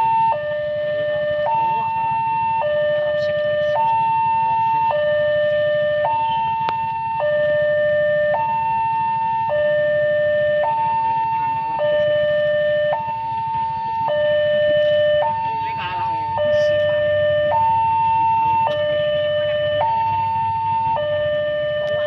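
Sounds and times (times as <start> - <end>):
diesel locomotive engine rumble: 0.0 - 22.0
two-tone electronic warning alarm: 0.0 - 22.0.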